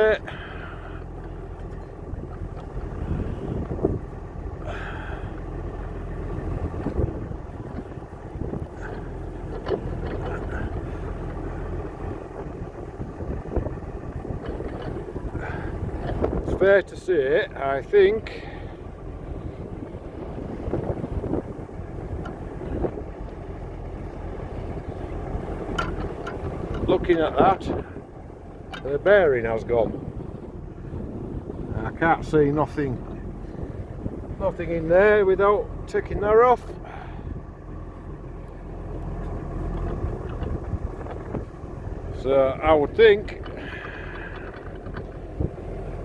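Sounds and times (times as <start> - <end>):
low steady rumble: 0.0 - 46.0
tractor engine idling: 0.0 - 46.0
wind buffeting microphone: 0.0 - 46.0.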